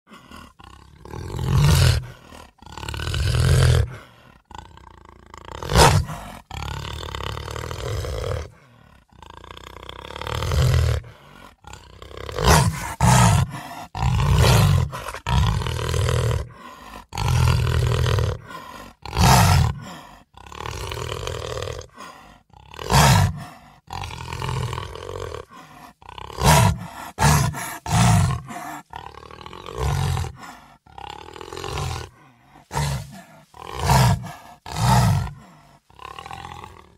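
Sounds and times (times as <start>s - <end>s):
monster growls and roars: 0.1s - 36.9s.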